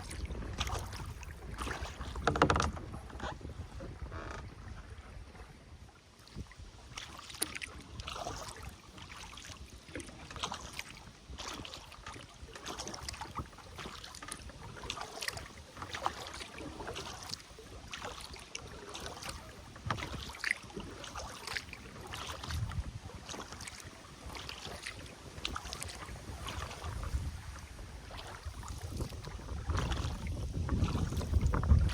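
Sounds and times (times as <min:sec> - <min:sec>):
wind on microphone: 0:00.0 - 0:14.0, 0:19.1 - 0:31.9
water splashing and trickling: 0:00.0 - 0:31.9.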